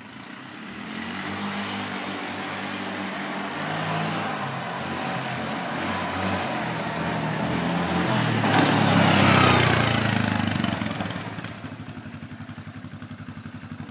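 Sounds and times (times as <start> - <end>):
quad bike engine revving: 0.0 - 13.9.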